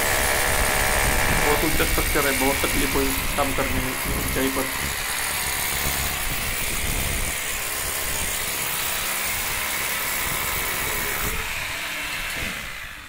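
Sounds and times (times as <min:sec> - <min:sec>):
hammer drill boring into concrete: 0:00.0 - 0:13.0.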